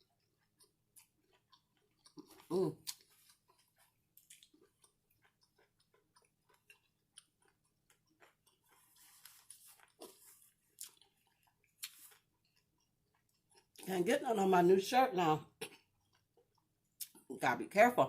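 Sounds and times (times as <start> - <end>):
chewing fried food: 0.0 - 14.1, 15.4 - 17.4.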